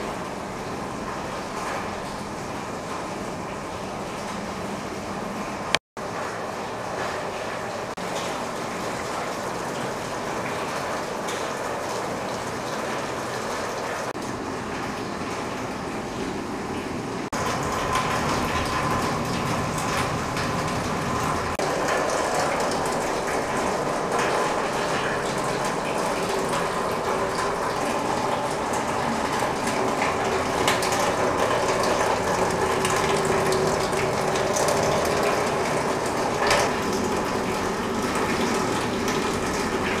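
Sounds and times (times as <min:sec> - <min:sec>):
rain on a metal roof: 0:00.0 - 0:40.0.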